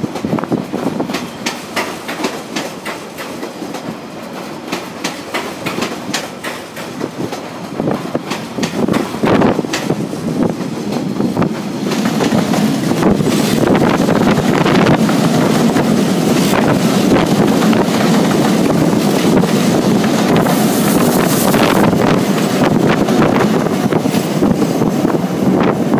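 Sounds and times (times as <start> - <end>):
electric train rumbling past: 0.0 - 25.9
wind buffeting microphone: 0.0 - 25.9.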